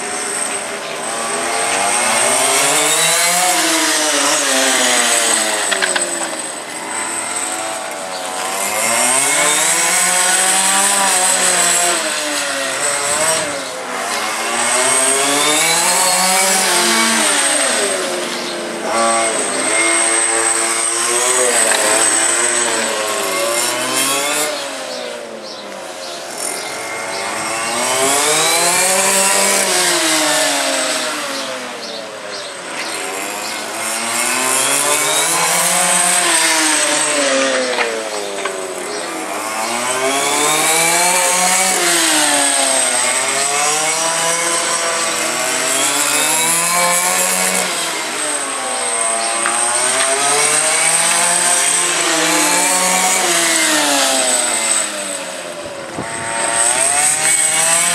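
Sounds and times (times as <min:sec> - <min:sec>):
model car engines revving: 0:00.0 - 0:57.9.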